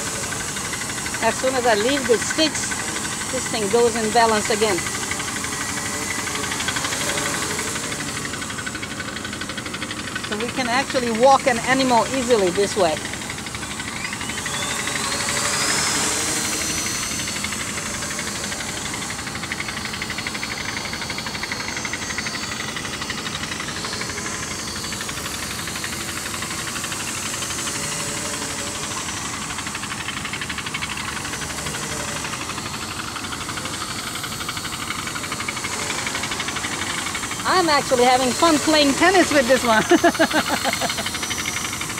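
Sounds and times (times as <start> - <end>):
motor whine rising: 0.0 - 41.9
quadcopter propellers buzzing: 0.0 - 41.9.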